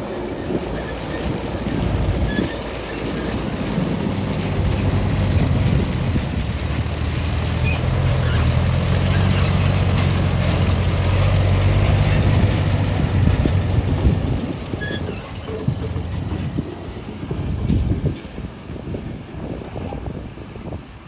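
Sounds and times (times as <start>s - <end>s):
excavator diesel engine droning: 0.0s - 20.6s.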